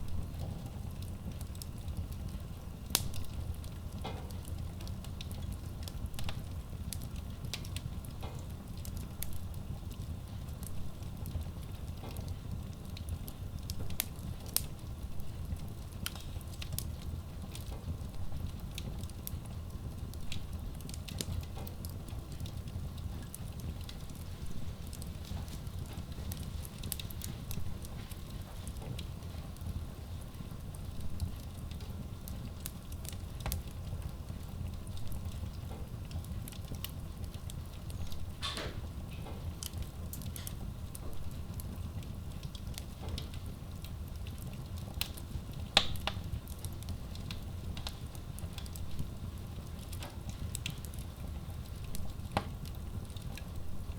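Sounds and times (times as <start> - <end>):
stove fire rumbling and crackling: 0.0 - 53.9
wood fire popping: 0.0 - 53.9.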